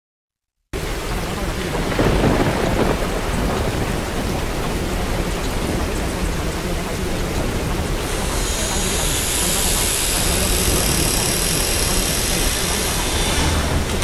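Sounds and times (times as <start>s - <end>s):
steady rain: 0.8s - 14.0s
thunder rumble: 0.8s - 14.0s.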